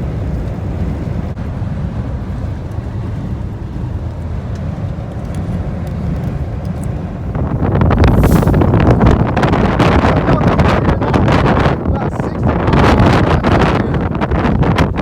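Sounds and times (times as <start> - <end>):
truck driving rumble from inside cab: 0.0 - 15.0.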